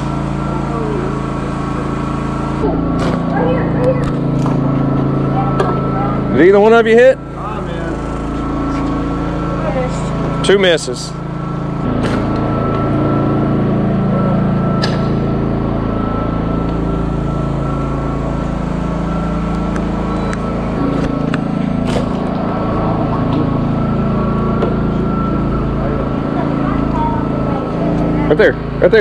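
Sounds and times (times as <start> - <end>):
boat motor droning: 0.0 - 29.0
thin steady whine: 0.0 - 29.0.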